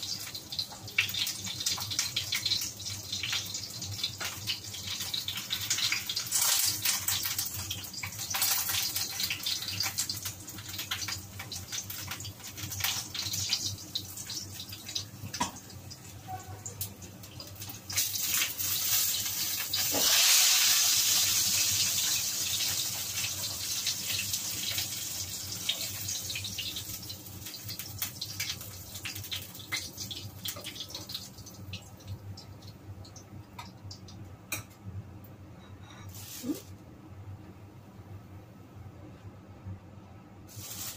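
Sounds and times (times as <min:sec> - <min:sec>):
meat sizzling in hot oil: 0:00.0 - 0:32.7, 0:40.5 - 0:40.9.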